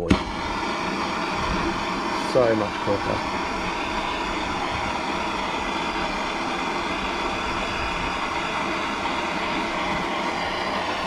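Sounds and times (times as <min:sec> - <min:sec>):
power tool motor running: 0:00.0 - 0:11.0.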